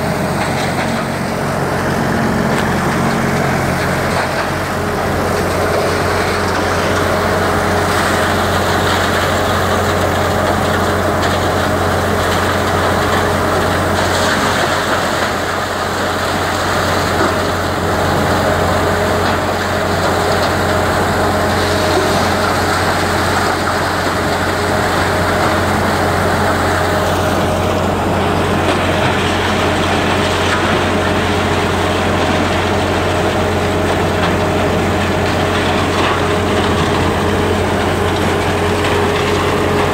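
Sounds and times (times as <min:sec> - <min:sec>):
excavator engine running: 0:00.0 - 0:39.9
misting fan running: 0:00.0 - 0:39.9.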